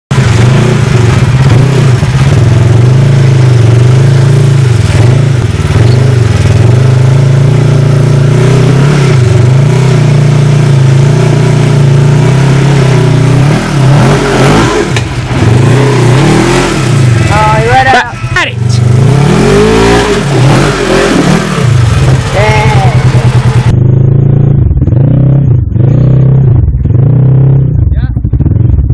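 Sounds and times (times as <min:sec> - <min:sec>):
off-road vehicle engine revving: 0:00.1 - 0:28.9.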